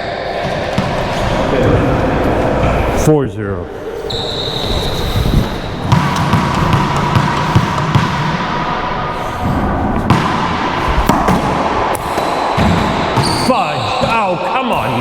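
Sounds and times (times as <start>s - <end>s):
ball hitting racquets and walls: 0.0s - 2.9s, 4.6s - 15.0s
steady hum: 0.0s - 15.0s.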